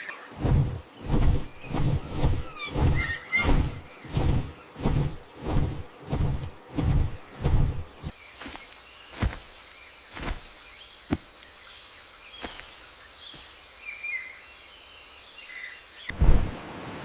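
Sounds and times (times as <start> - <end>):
high insect drone: 0.0 - 16.1.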